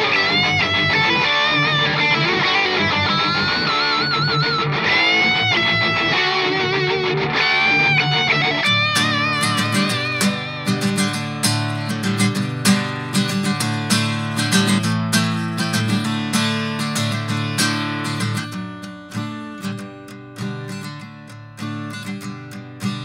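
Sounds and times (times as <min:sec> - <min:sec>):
acoustic guitar strummed: 0:00.0 - 0:23.0.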